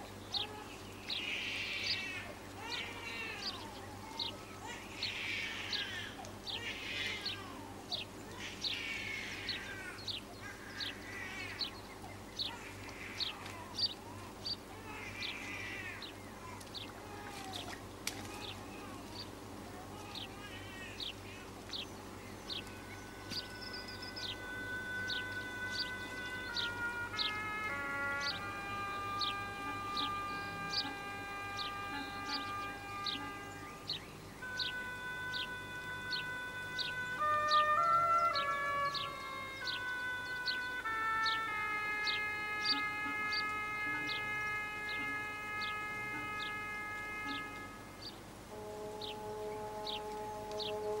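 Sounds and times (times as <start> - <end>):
held music notes: 0.0 - 51.0
small birds chirping: 0.0 - 51.0
steady low hum: 0.0 - 51.0.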